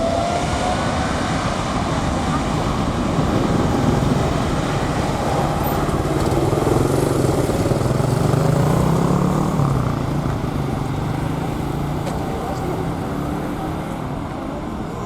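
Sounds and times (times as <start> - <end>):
engine running: 0.8 - 15.0.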